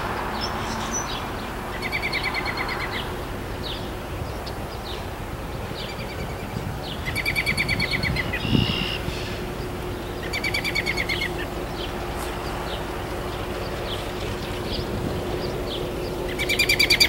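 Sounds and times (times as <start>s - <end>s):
bird singing fast trill: 0.0s - 17.0s
bird chirps: 0.4s - 5.0s, 5.6s - 17.0s.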